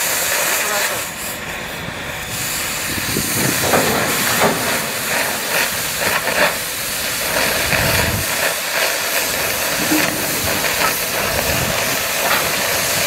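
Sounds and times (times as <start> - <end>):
crackles of cutting metal: 0.0 - 13.0
gas cutting torch hissing: 0.0 - 13.0.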